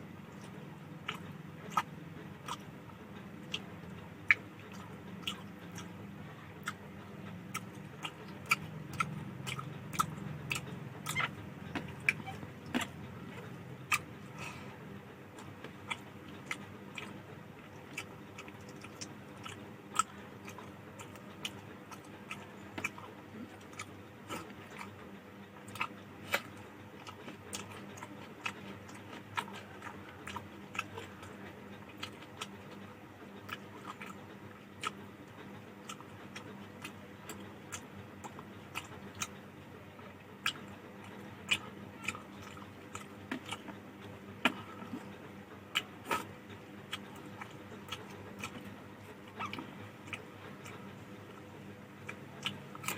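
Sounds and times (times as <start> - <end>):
faint steady hum: 0.0 - 52.9
wet chewing mouth sounds: 0.3 - 52.9.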